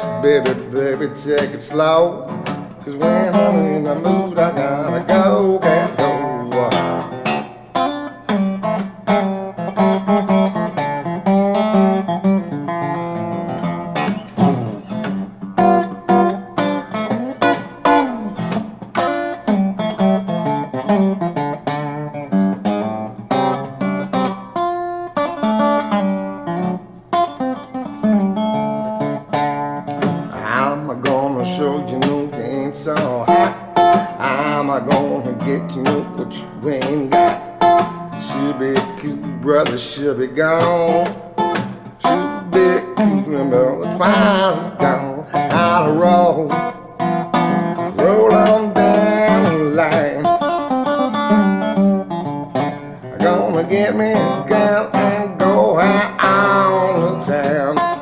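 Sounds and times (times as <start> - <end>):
acoustic guitar strumming and picking: 0.0 - 58.0.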